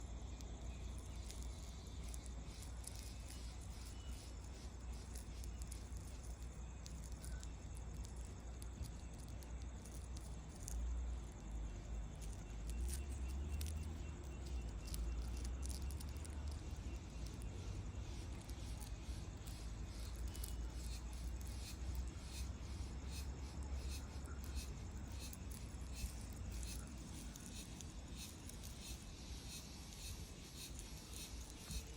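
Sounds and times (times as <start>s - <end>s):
ant stridulation clicks: 0.1s - 31.9s.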